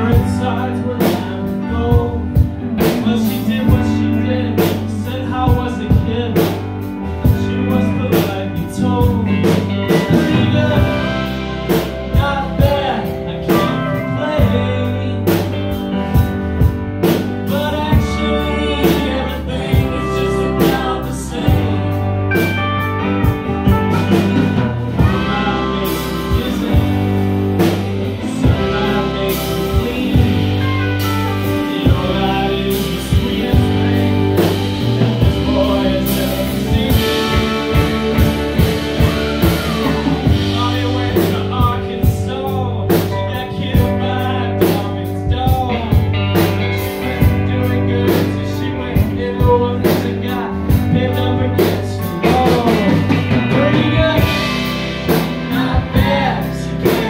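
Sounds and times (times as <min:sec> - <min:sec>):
electric guitars: 0:00.0 - 0:57.0
pedal steel guitar: 0:00.0 - 0:57.0
person singing: 0:00.0 - 0:57.0
steady drum beat: 0:00.0 - 0:57.0.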